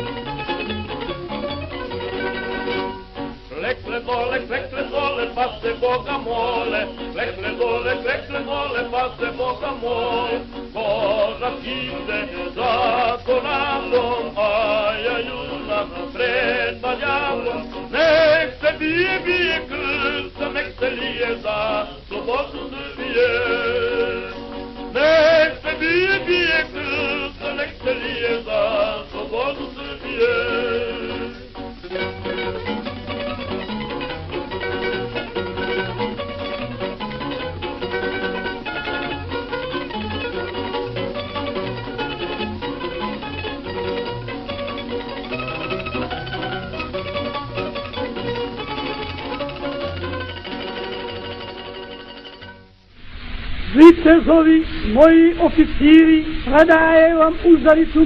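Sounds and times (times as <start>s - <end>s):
instrumental background music: 0.0s - 52.9s.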